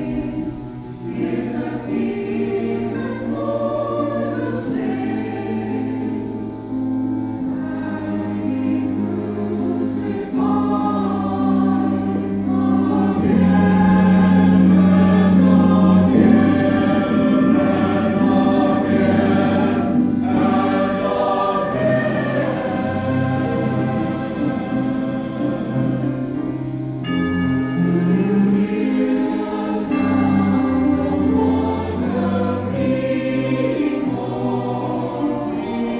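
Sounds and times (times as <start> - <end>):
choir singing held chords: 0.0 - 35.9.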